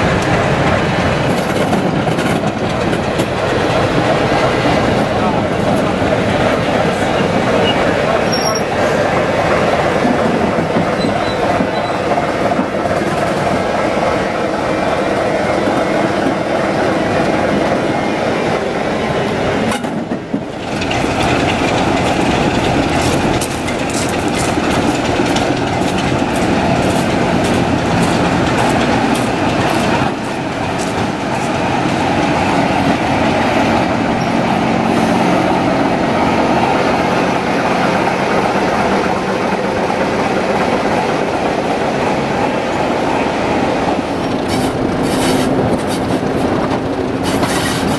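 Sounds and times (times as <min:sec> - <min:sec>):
wheels clicking over rail joints: 0:00.0 - 0:16.5, 0:19.6 - 0:42.0, 0:44.0 - 0:47.9
diesel locomotive droning: 0:00.0 - 0:47.9.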